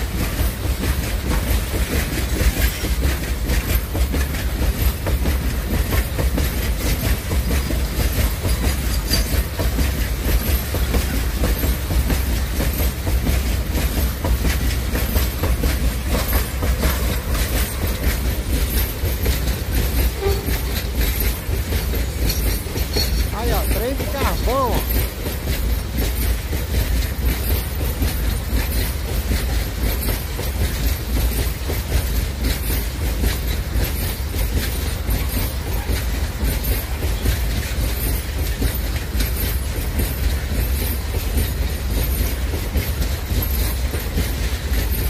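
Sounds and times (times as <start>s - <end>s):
train rumble: 0.0s - 45.0s
wheels clacking over rail joints: 0.0s - 45.0s.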